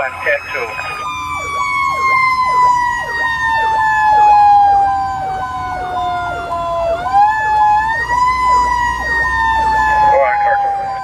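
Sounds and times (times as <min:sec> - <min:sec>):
fast cycling siren: 0:00.0 - 0:11.0
slow wailing siren: 0:00.0 - 0:11.0.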